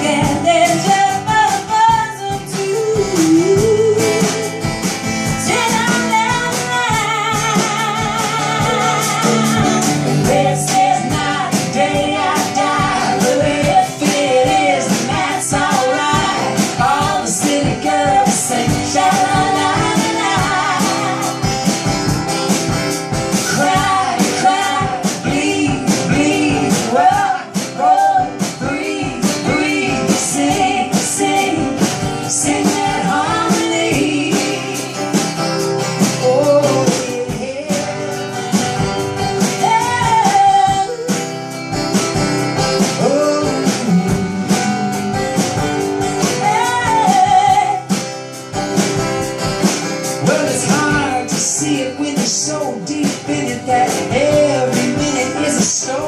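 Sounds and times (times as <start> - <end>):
person singing with vibrato: 0.0 - 48.1, 50.0 - 56.0
strummed guitar: 0.0 - 56.0.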